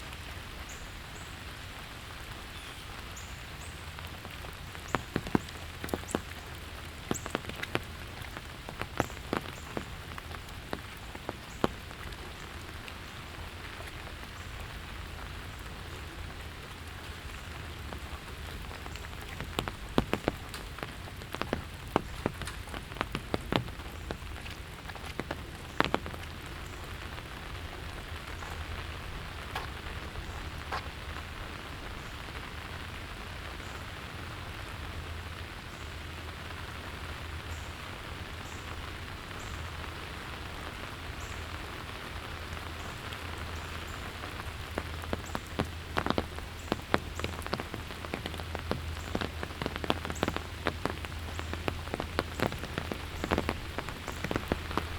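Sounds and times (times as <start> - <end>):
sharp raindrops hitting close: 0.0 - 54.9
steady rain falling: 0.0 - 54.9.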